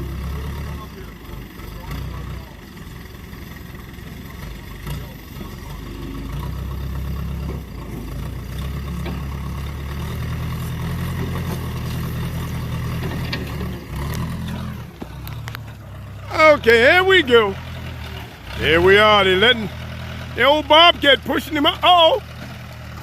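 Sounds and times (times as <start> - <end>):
heavy equipment engine under load: 0.0 - 23.0.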